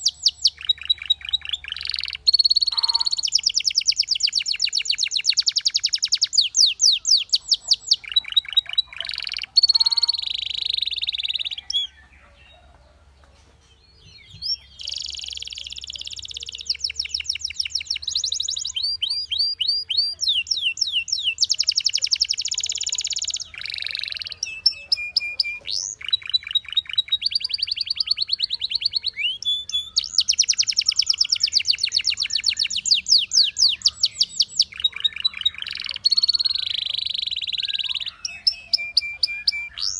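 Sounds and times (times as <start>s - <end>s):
canary singing trills: 0.0s - 13.1s, 13.8s - 39.9s.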